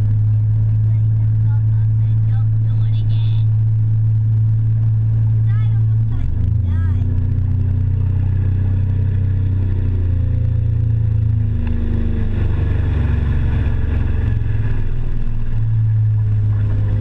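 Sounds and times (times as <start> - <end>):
motorboat engine droning: 0.0 - 17.0.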